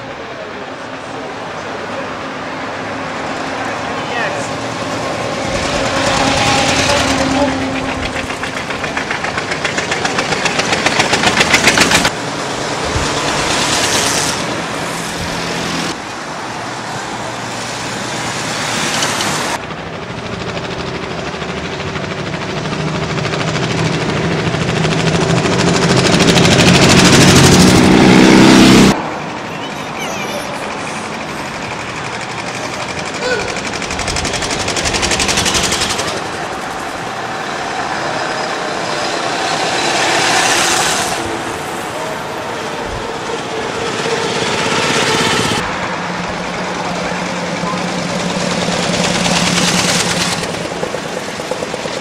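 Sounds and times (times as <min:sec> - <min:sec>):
old car engines chugging: 0:00.0 - 0:16.0, 0:17.7 - 0:52.0
traffic noise: 0:00.0 - 0:52.0
motorcycle engine approaching: 0:04.3 - 0:15.5, 0:19.1 - 0:29.5, 0:30.5 - 0:52.0.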